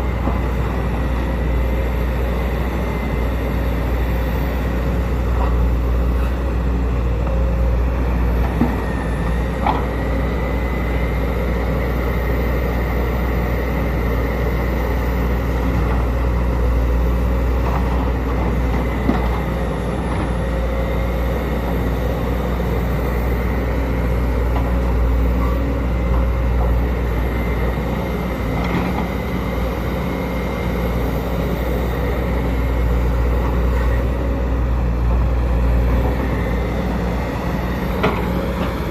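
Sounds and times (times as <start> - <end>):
excavator diesel engine droning: 0.0 - 38.9
high engine whine: 0.0 - 38.9.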